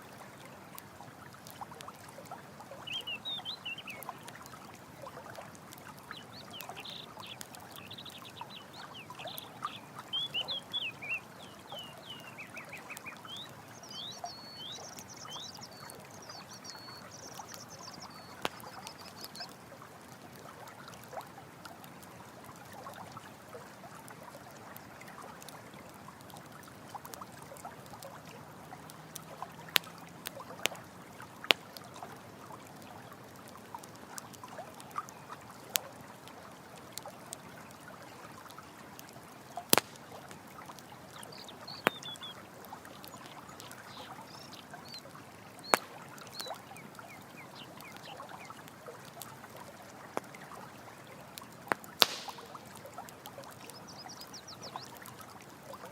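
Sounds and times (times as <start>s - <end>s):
campfire crackling: 0.0s - 55.9s
stream water trickling: 0.0s - 55.9s.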